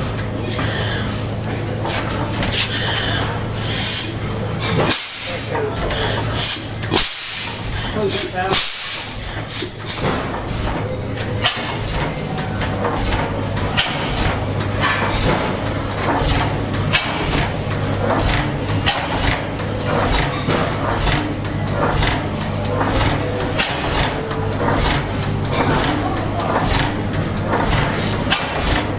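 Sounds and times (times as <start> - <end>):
mechanical clatter: 0.0 - 28.9
old gas engines running: 0.0 - 28.9.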